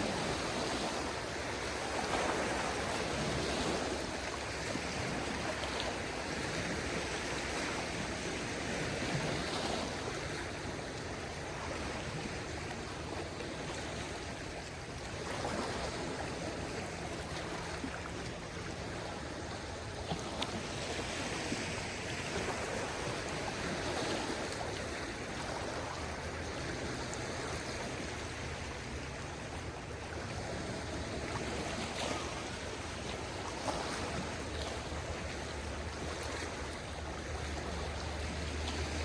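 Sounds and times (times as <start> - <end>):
small waves washing onto shore: 0.0 - 39.0.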